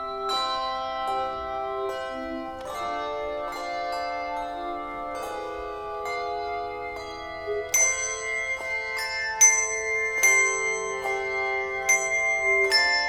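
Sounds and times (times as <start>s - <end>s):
bell-like struck notes: 0.0s - 13.0s.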